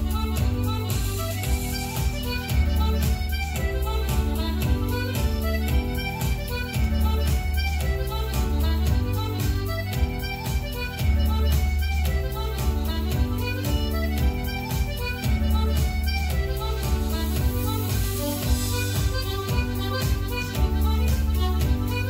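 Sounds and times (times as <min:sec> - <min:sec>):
fiddle-led step-dance tune: 0:00.0 - 0:22.0
sharp rhythmic clicks: 0:00.0 - 0:22.0.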